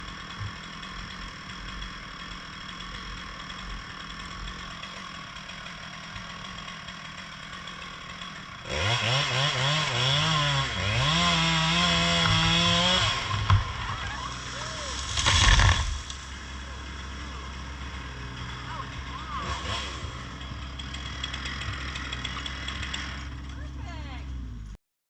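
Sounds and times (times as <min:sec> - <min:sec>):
engine idling: 0:00.0 - 0:09.5, 0:12.0 - 0:24.8
chainsaw revving: 0:00.0 - 0:24.2.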